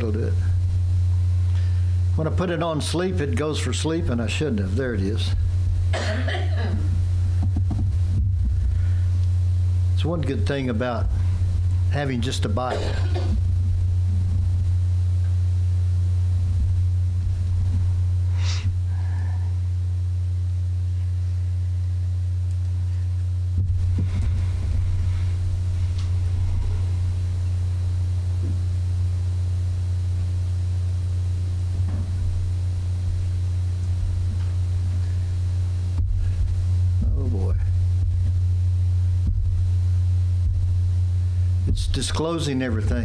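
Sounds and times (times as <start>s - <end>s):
loud low hum: 0.0s - 43.0s.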